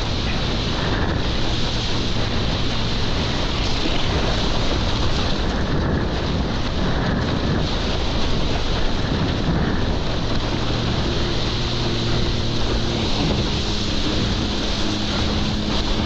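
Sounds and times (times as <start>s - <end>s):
jet ski engine running: 0.0s - 16.0s
rushing water: 0.0s - 16.0s
wind buffeting microphone: 0.0s - 16.0s.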